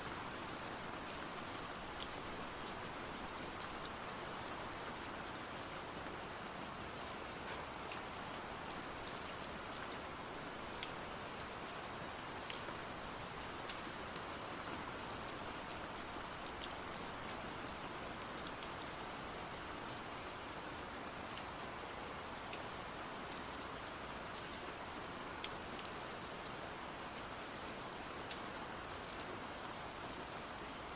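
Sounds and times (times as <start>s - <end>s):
steady rain hiss: 0.0s - 30.9s.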